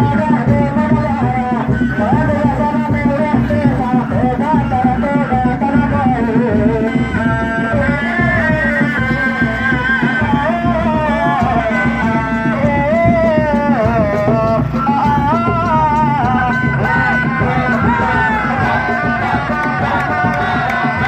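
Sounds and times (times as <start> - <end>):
fast drum rhythm: 0.0 - 21.0.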